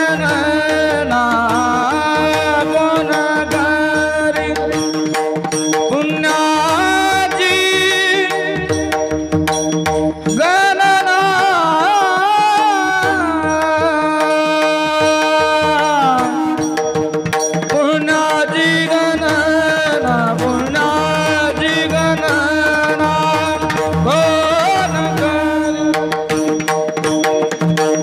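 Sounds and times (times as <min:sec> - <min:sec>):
person singing long ornamented notes: 0:00.0 - 0:09.2, 0:10.1 - 0:26.6.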